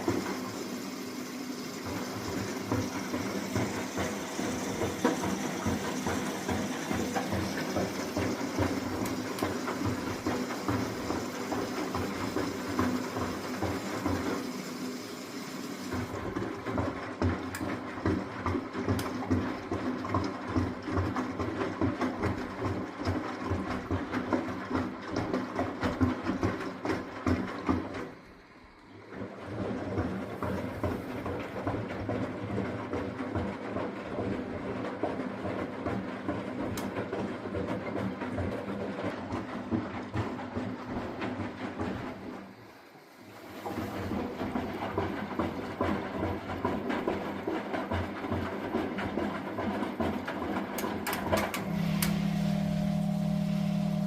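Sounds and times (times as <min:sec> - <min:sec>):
washing machine running: 0:00.0 - 0:54.0.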